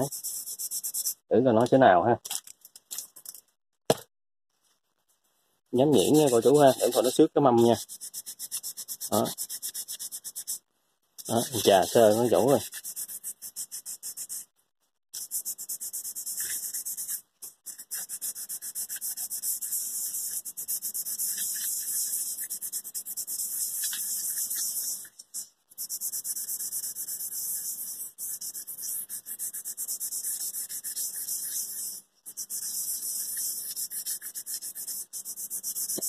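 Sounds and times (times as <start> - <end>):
sandpaper rubbing on metal: 0.0 - 1.2, 5.8 - 10.6, 11.2 - 14.5, 15.2 - 36.0.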